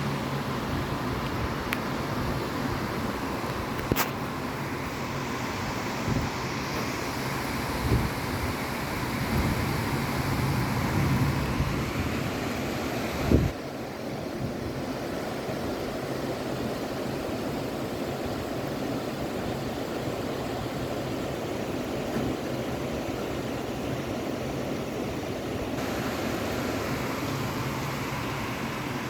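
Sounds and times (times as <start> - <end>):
storm wind and rain: 0.0 - 29.0.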